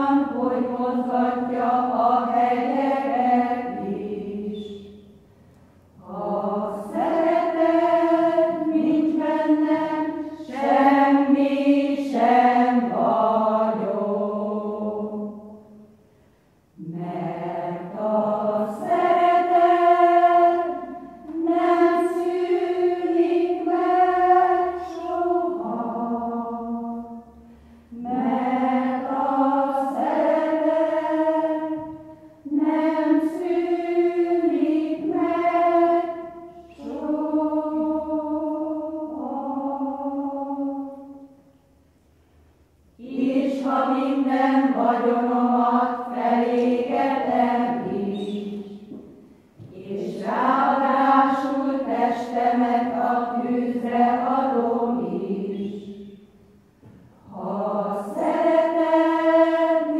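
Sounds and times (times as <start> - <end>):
women's choir singing a hymn: 0.0 - 16.0, 16.7 - 41.5, 43.0 - 59.9.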